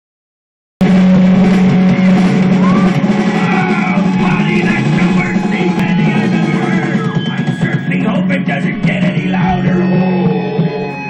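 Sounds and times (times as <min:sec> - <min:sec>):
rock music through tv speaker: 0:00.8 - 0:11.0.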